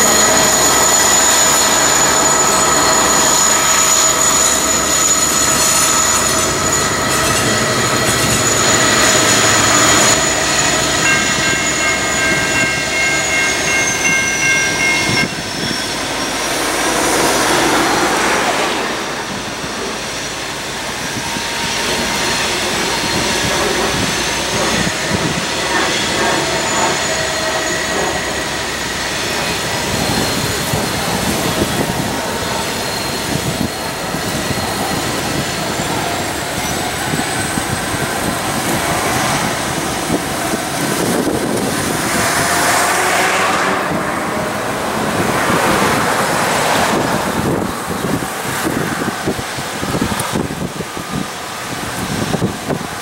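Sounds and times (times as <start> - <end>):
diesel locomotive engine: 0.0 - 53.0
wheels squealing on rail: 0.0 - 53.0.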